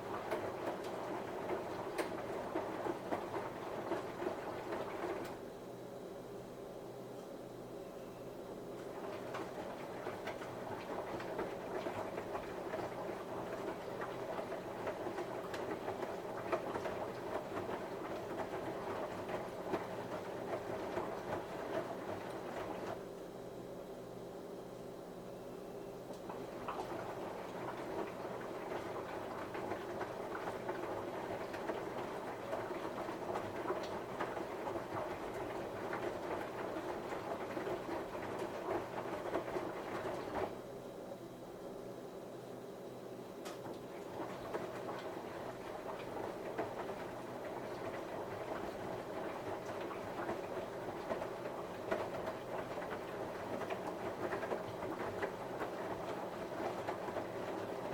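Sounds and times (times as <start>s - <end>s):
washing machine drum tumbling laundry: 0.0s - 5.7s, 8.5s - 24.6s, 25.8s - 41.9s, 43.0s - 57.9s.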